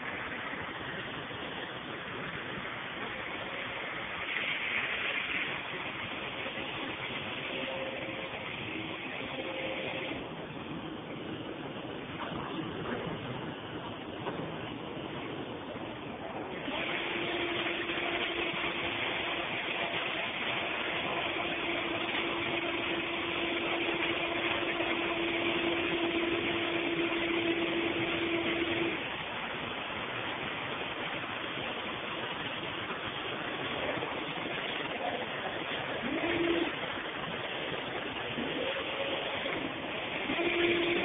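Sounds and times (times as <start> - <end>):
factory machinery noise: 0.0 - 41.0
mid-pitched hum: 0.0 - 41.0.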